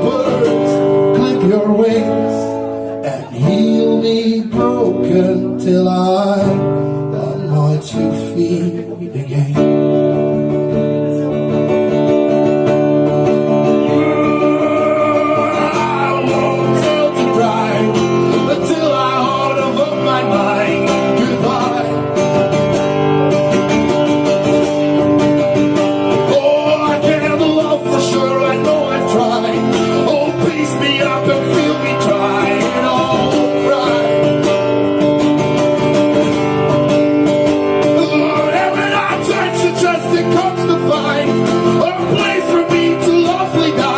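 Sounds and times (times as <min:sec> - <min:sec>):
guitar chords: 0:00.0 - 0:43.9.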